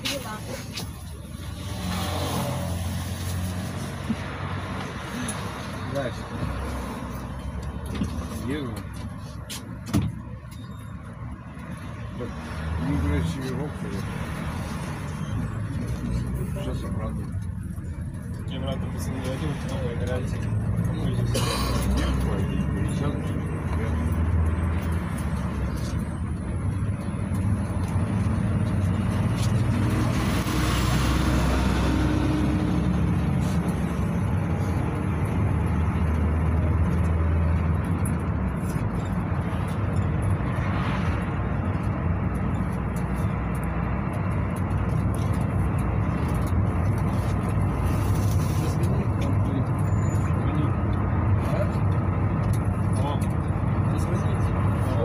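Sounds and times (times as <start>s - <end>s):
minibus engine running: 0.0s - 55.0s
tyres on road: 0.0s - 55.0s.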